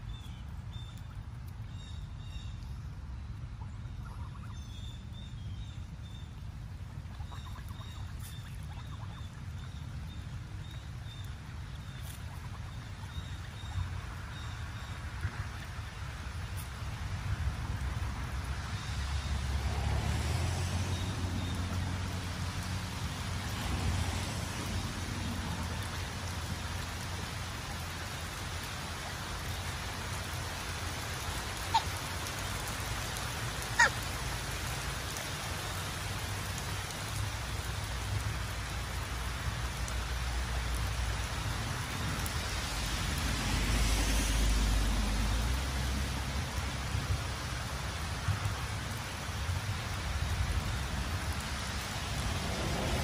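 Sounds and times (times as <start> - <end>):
light rain: 0.0 - 53.0.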